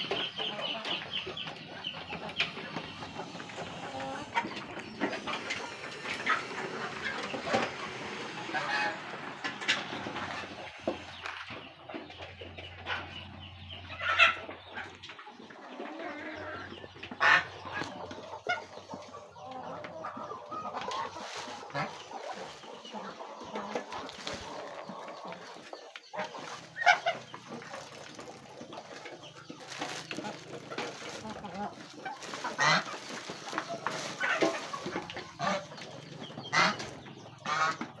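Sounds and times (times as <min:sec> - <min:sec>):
poultry clucking and chattering: 0:00.0 - 0:38.0.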